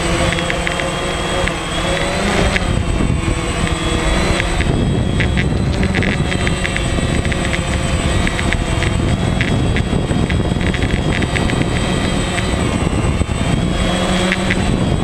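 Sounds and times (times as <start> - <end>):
drone propellers buzzing: 0.0 - 15.0
wind rumble on microphone: 0.0 - 15.0.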